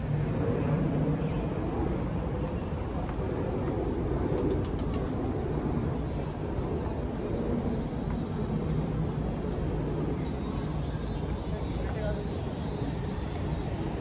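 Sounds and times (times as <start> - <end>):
constant hiss: 0.0 - 14.0
traffic rumble: 0.0 - 14.0.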